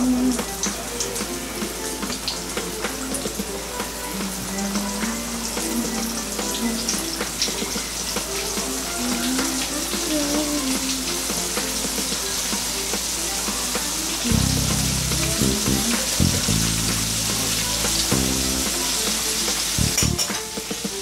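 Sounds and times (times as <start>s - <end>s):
background music: 0.0s - 21.0s
chicken deep-frying in oil: 0.2s - 21.0s.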